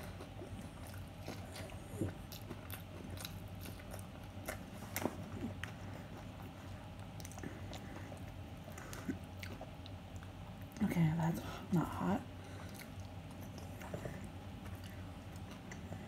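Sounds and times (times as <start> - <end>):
person chewing wetly: 0.0 - 11.1, 12.3 - 16.0.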